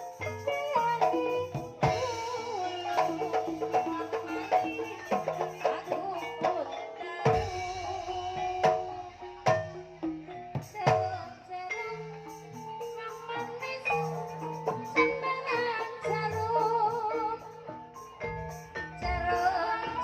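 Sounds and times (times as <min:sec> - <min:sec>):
metallophone notes ringing: 0:00.0 - 0:20.0.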